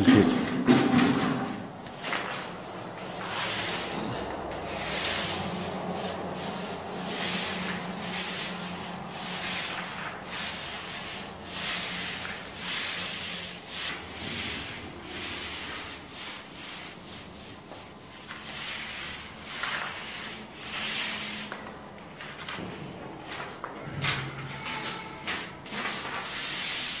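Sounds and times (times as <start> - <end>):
paint roller swishing on wall: 0.7 - 27.0.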